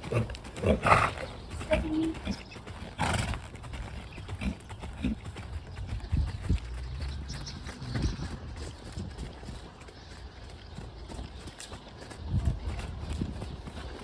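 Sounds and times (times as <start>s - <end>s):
horse hoofbeats: 0.0s - 14.0s.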